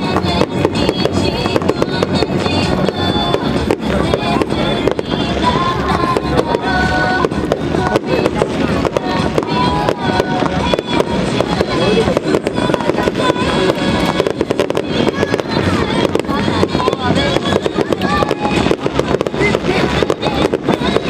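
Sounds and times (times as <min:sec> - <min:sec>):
fireworks bangs and crackles: 0:00.0 - 0:21.0
music playing: 0:00.0 - 0:21.0.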